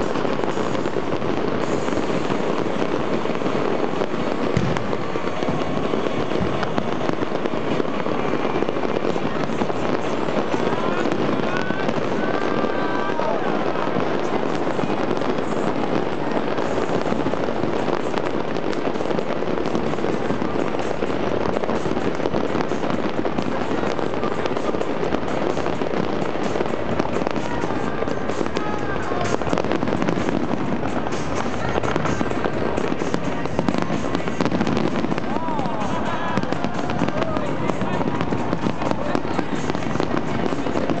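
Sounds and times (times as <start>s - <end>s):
firework shells bursting: 0.0s - 41.0s
fireworks crackling: 0.0s - 41.0s.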